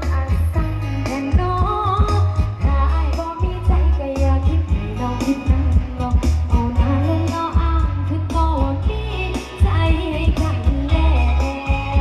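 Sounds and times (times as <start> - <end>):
backing track with heavy bass: 0.0 - 12.0
person singing karaoke: 0.0 - 12.0.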